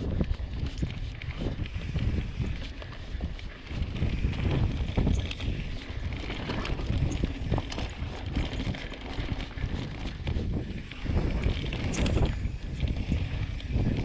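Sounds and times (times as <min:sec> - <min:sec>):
bike clicks and rattles: 0:00.0 - 0:14.0
wind buffeting microphone: 0:00.0 - 0:14.0
tyres rumbling over dirt: 0:01.1 - 0:14.0.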